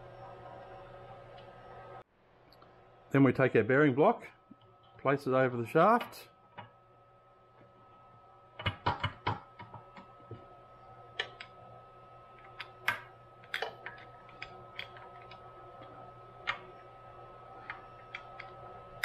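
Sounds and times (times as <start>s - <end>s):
faint high whine: 0.0s - 8.8s, 9.6s - 19.0s.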